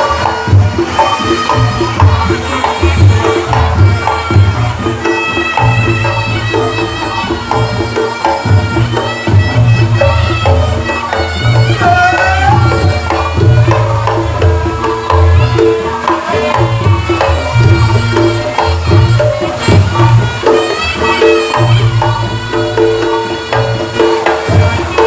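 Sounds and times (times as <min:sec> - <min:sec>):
drums beating steady rhythm: 0:00.0 - 0:25.0.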